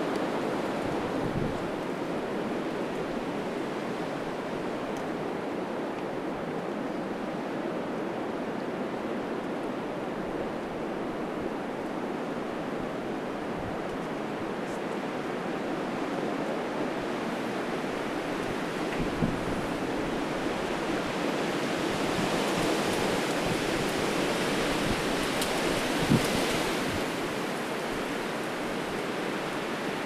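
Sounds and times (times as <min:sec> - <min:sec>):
strong wind through trees: 0:00.0 - 0:30.0.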